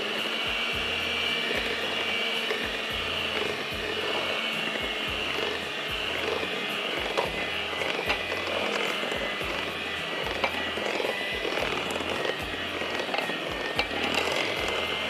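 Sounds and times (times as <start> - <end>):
electric mixer running: 0.0 - 15.0.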